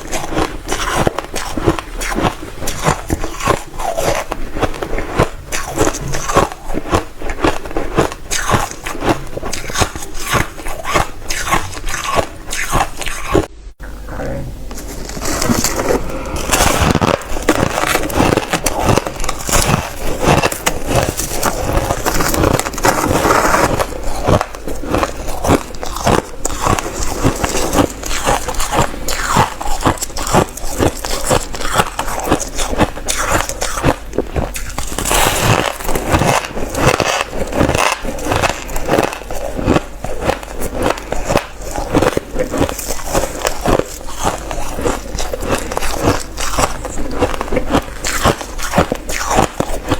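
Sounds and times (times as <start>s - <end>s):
crushed ice being chewed: 0.0s - 13.5s, 14.7s - 49.9s.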